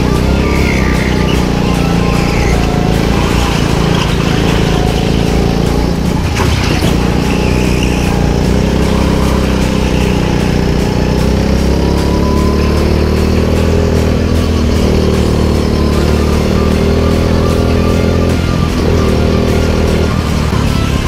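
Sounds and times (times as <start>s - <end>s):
go-kart engine running: 0.0s - 21.0s.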